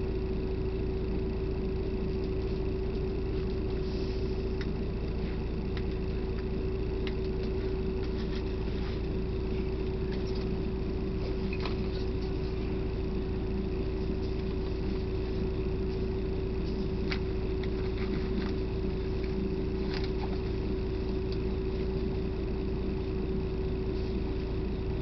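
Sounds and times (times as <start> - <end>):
bus running rumble: 0.0 - 25.0
mid-pitched hum: 0.0 - 25.0.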